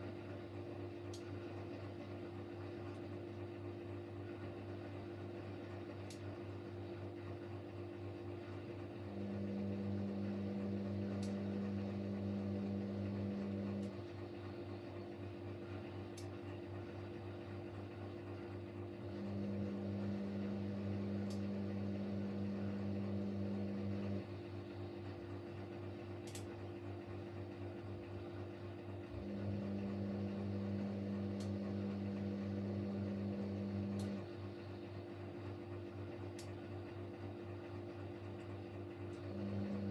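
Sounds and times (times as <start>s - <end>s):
washing machine drum motor: 0.0s - 39.9s
washing machine hum: 0.0s - 39.9s.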